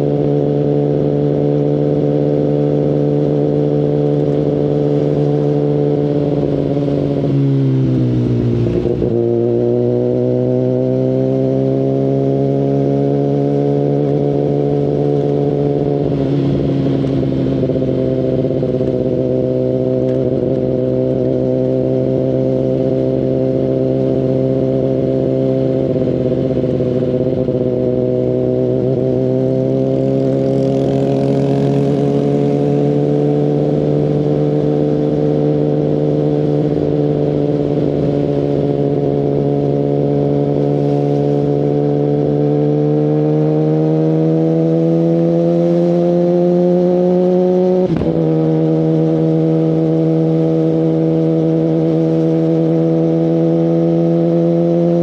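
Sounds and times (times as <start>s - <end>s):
motorcycle engine riding: 0.0s - 55.0s.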